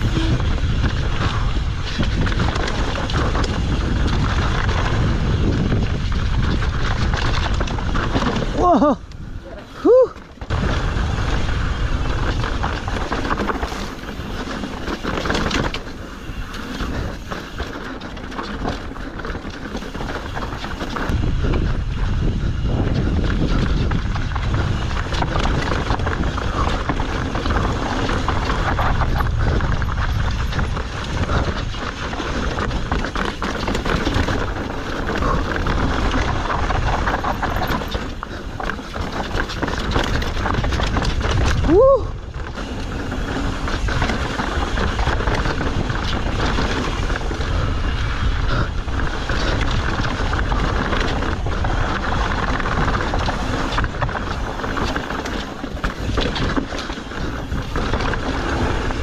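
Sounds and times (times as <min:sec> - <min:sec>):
bike rattling and knocking: 0:00.0 - 0:59.0
tyres rumbling: 0:00.0 - 0:59.0
wind on microphone: 0:00.0 - 0:59.0.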